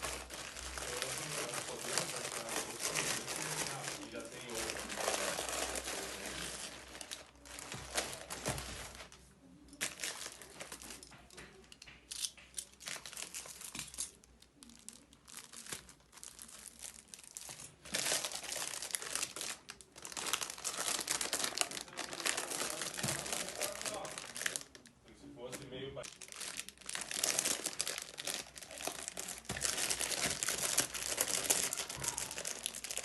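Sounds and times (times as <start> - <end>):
plastic packaging crinkling: 0.0 - 9.2, 9.8 - 33.0.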